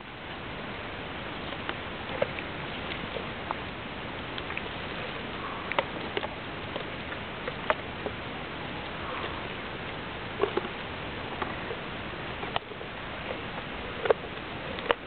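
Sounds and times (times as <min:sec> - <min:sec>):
steady background hiss: 0:00.0 - 0:15.0
rhino chewing with crunching clicks: 0:01.2 - 0:15.0.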